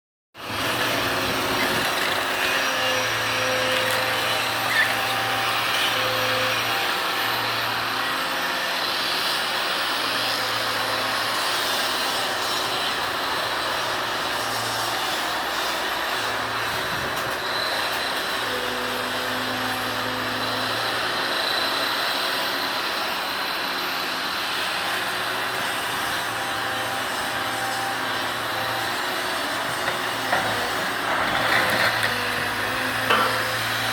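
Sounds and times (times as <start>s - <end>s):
excavator engine and hydraulics: 0.4s - 33.9s.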